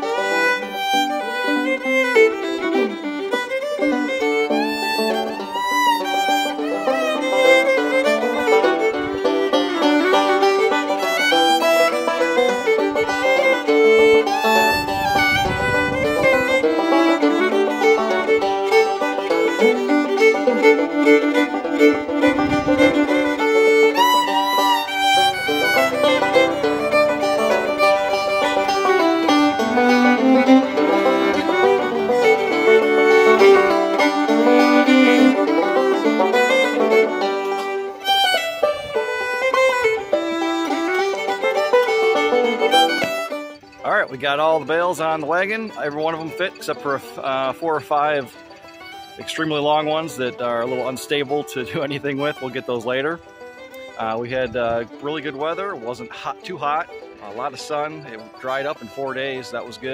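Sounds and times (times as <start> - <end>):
lively fiddle tune: 0.0 - 59.9
plucked-string accompaniment: 0.0 - 59.9.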